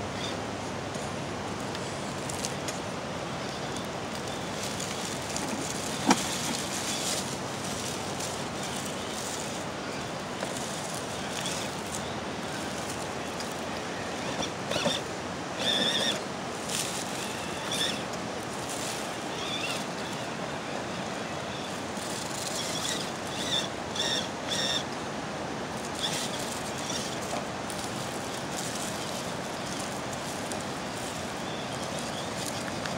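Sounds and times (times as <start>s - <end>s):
river water rushing: 0.0s - 32.9s
toy car electric motor whirring: 3.4s - 24.9s, 25.7s - 32.9s.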